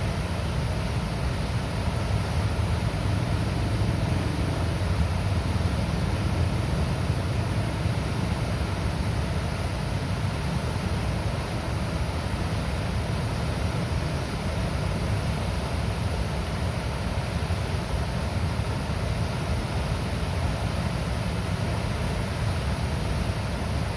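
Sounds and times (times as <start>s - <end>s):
water rushing and gurgling: 0.0s - 23.9s.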